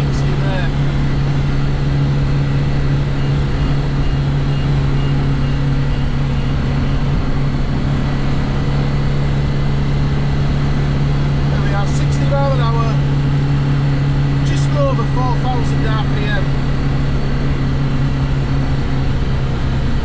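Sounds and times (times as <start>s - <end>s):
car engine droning in cabin: 0.0s - 20.0s.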